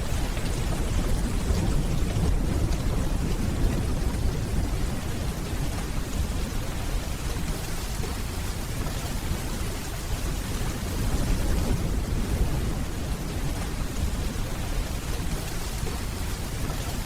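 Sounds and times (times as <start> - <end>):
distant thunder rumble: 0.0 - 17.0
steady rainfall: 0.0 - 17.0.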